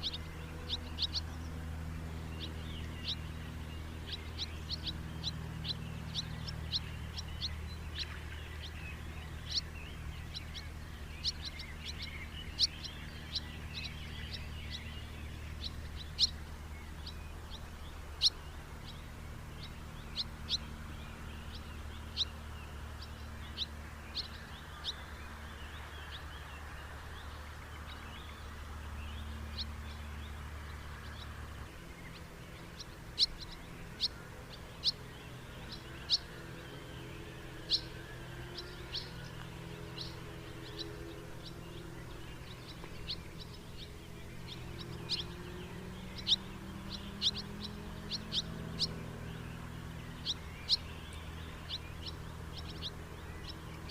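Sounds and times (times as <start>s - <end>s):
birds chirping: 0.0s - 53.9s
low background hum: 0.0s - 53.9s.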